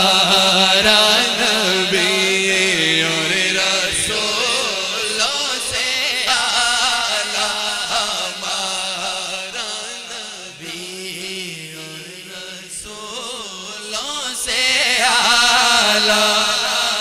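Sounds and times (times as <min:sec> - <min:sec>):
men singing ornamented notes: 0:00.0 - 0:17.0.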